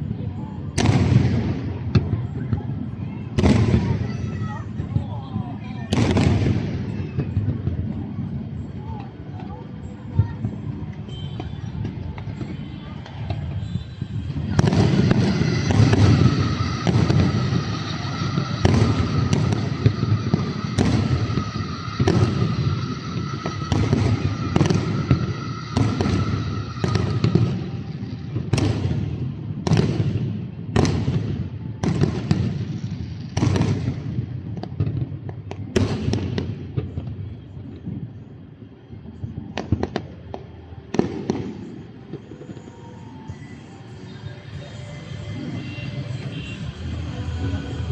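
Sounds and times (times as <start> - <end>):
fireworks sharp bangs: 0.7 - 8.5, 10.3 - 38.0, 39.4 - 47.9.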